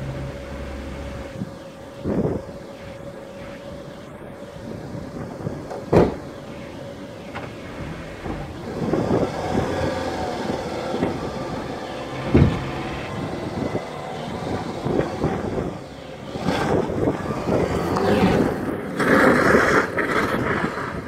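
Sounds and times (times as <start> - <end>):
car engine revving: 0.0 - 20.3
wheels spinning on loose ground: 0.0 - 21.0.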